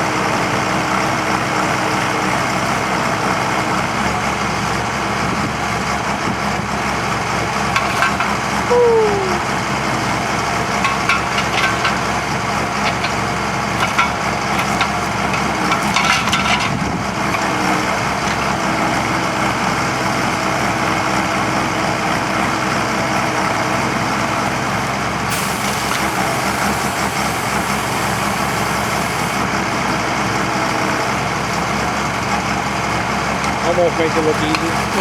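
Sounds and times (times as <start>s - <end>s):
heavy engine running: 0.0s - 35.0s.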